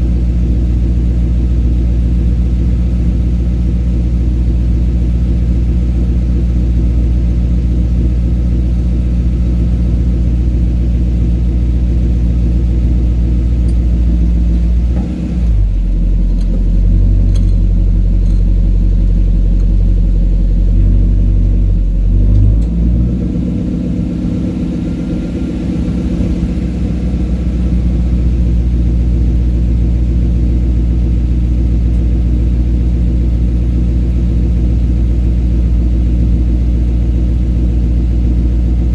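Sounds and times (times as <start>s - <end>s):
car engine exhaust running: 0.0s - 38.9s.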